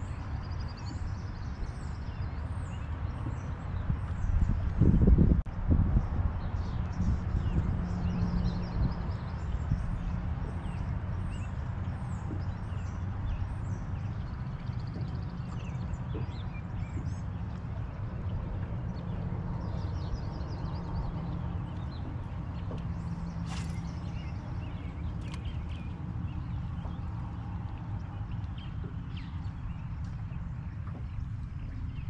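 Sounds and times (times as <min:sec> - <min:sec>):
birds chirping and twittering: 0:00.0 - 0:32.0.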